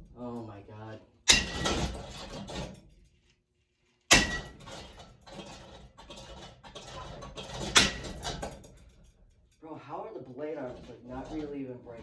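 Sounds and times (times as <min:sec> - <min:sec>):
fan parts clattering and rattling: 0:01.3 - 0:03.2, 0:04.1 - 0:12.0.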